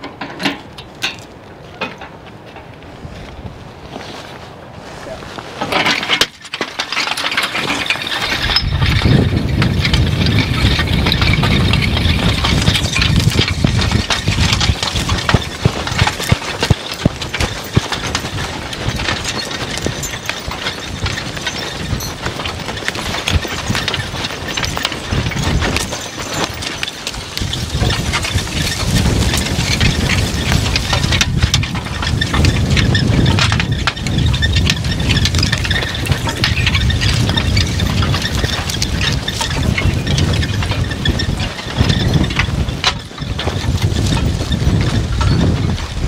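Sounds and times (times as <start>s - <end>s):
harrow rattling and scraping soil: 0.0s - 46.0s.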